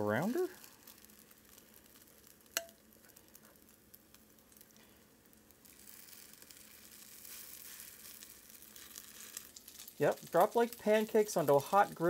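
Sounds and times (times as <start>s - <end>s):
batter sizzling in hot oil: 0.0s - 12.0s.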